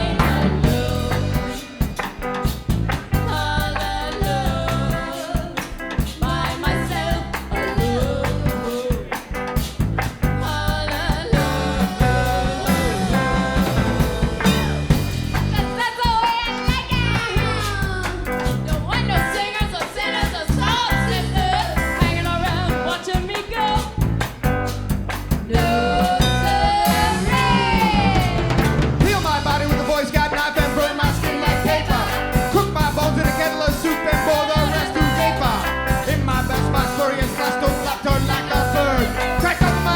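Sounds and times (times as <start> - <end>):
live band playing: 0.0 - 39.9
sliding lead guitar line: 0.0 - 39.9.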